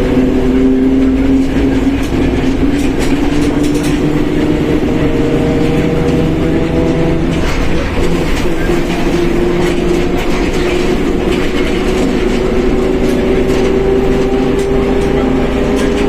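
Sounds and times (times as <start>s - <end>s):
diesel engine rumble: 0.0s - 16.0s
differential whining: 0.0s - 16.0s.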